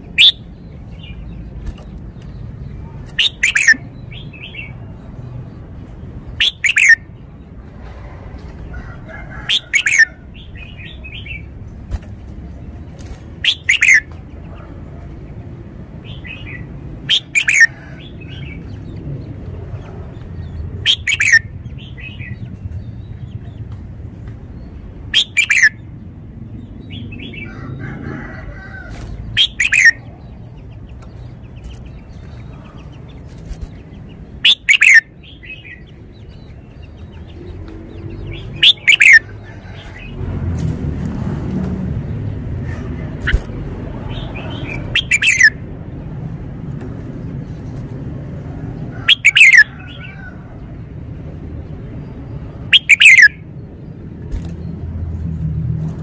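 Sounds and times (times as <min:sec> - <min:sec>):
songbird singing: 0:00.0 - 0:40.3, 0:41.9 - 0:56.0.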